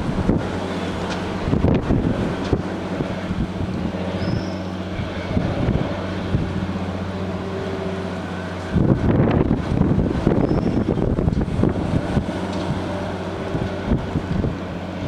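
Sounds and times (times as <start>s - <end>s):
engine idling: 0.0s - 15.0s
loud rough noise: 0.0s - 15.0s.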